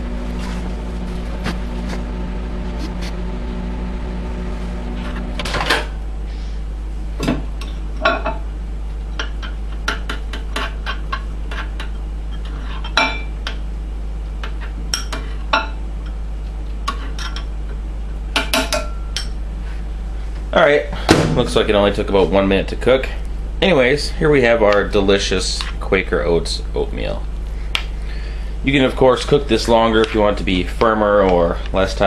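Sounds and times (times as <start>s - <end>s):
microwave oven humming: 0.0s - 32.0s.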